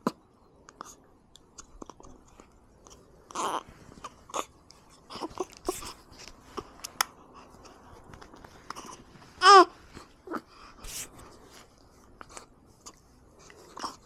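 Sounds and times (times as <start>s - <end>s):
baby sucking and swallowing: 0.8s - 14.0s.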